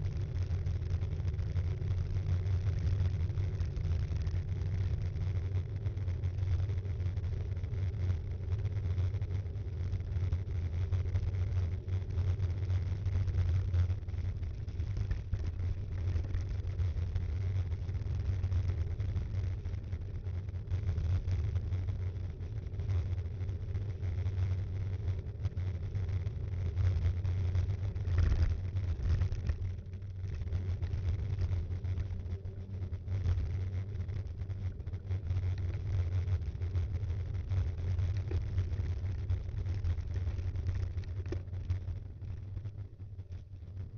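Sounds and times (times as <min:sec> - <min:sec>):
wind rumble: 0:00.0 - 0:43.9.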